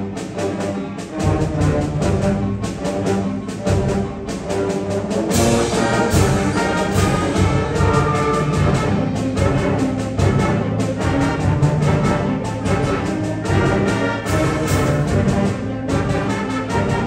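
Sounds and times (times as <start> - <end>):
concert band playing: 0.0 - 17.0.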